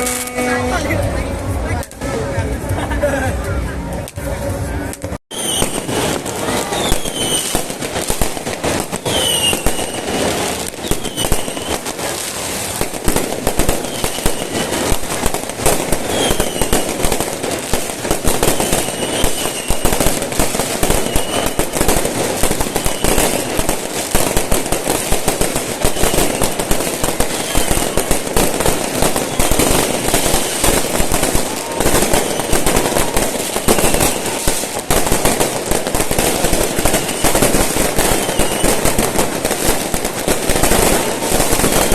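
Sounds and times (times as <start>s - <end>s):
fireworks crackling and popping: 0.0s - 41.9s.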